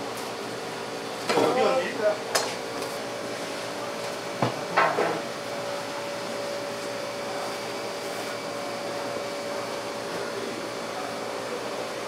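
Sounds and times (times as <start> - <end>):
machine whir with low hum: 0.0 - 12.0.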